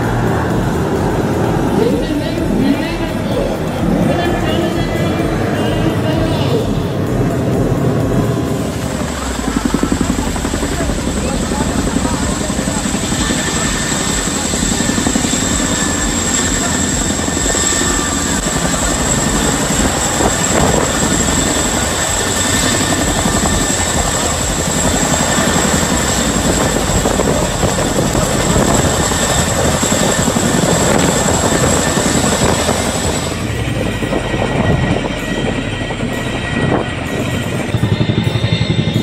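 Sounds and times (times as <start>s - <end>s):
helicopter rotors chopping: 0.0s - 39.0s
high whine: 0.0s - 39.0s.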